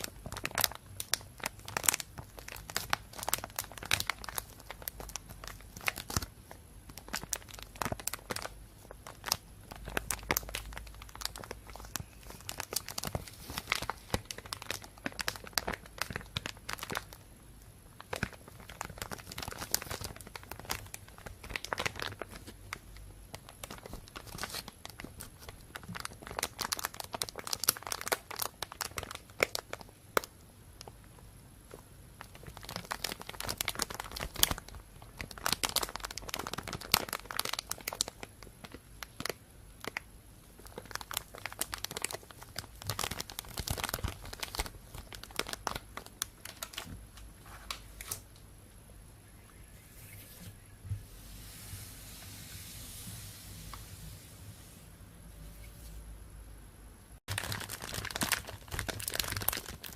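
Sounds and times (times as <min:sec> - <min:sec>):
plastic bag crinkling: 0:00.0 - 0:17.2, 0:17.9 - 0:30.9, 0:32.2 - 0:40.0, 0:40.6 - 0:48.2, 0:57.3 - 0:59.9.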